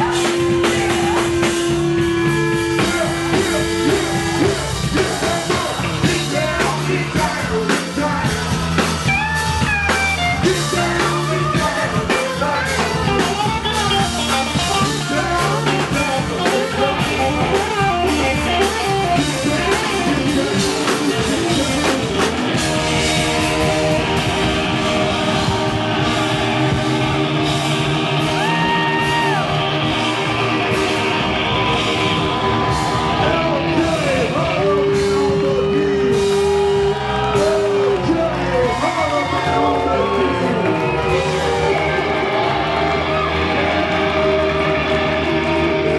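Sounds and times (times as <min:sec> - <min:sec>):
funk band playing: 0:00.0 - 0:45.9
held keyboard chords: 0:00.0 - 0:45.9.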